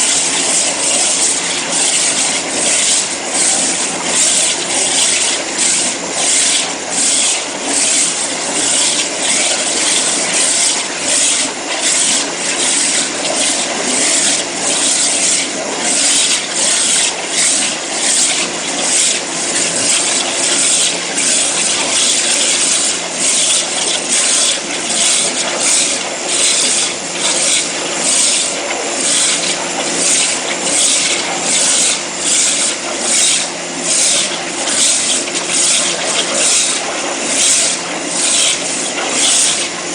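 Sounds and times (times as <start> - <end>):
waterjet cutter hissing: 0.0 - 39.9.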